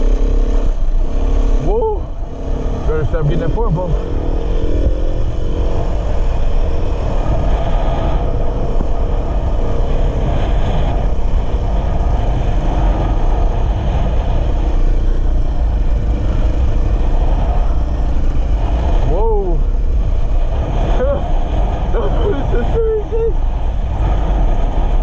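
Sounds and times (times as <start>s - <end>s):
dirt bike engine running: 0.0s - 25.0s
wind rumble on microphone: 0.0s - 25.0s.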